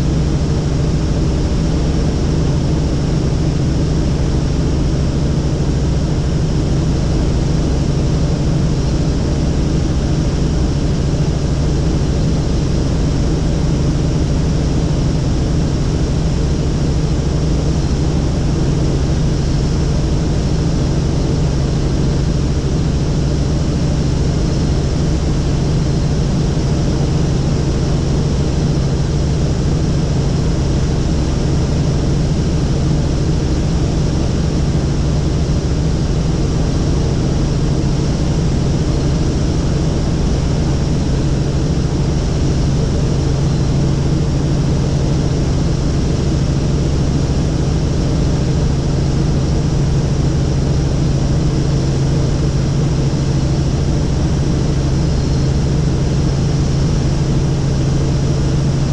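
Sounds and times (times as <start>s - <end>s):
helicopter engine and rotor drone: 0.0s - 58.9s.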